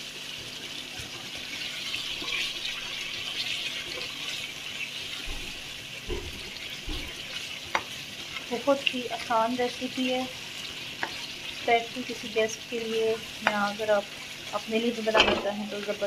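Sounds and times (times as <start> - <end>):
chicken sizzling in a frying pan: 0.0 - 16.0
spoon stirring in a pan: 0.6 - 16.0.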